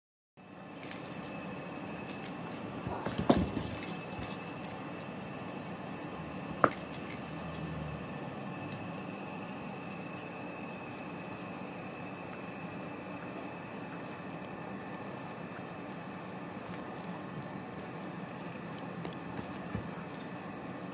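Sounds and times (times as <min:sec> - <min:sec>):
cats padding on foam mat: 0:00.7 - 0:20.9.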